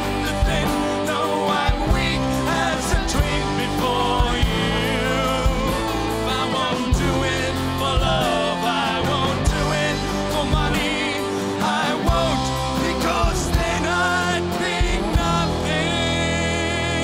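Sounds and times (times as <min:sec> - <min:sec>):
bass notes: 0:00.0 - 0:17.0
man singing: 0:00.0 - 0:17.0
strummed acoustic guitar: 0:00.0 - 0:17.0.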